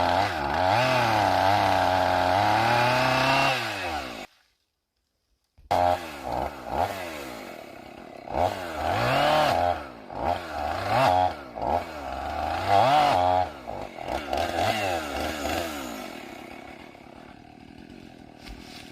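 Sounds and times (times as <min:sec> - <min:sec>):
chainsaw cutting logs: 0:00.0 - 0:04.3, 0:05.6 - 0:18.9.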